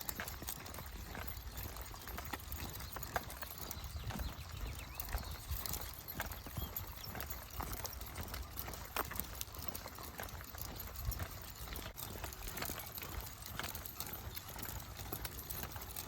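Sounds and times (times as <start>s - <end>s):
footsteps and paws on trail: 0.0s - 16.0s.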